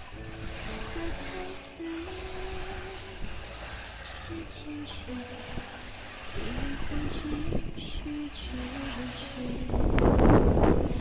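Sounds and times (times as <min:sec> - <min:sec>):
instrumental background music: 0:00.0 - 0:11.0
steady rushing noise: 0:00.0 - 0:11.0.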